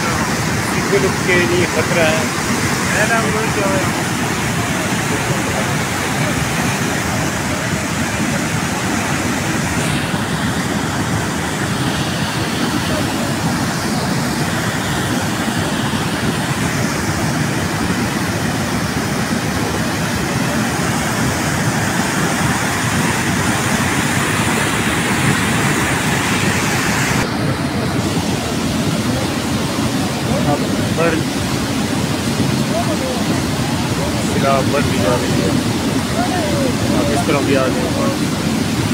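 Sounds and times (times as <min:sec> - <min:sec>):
rushing floodwater: 0:00.0 - 0:38.9.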